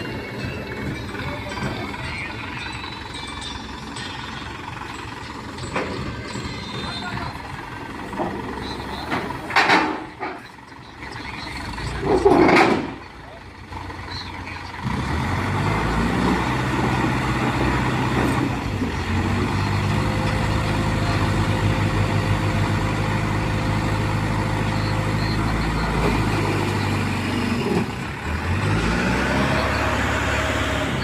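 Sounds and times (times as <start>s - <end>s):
crane diesel engine running: 0.0s - 31.0s.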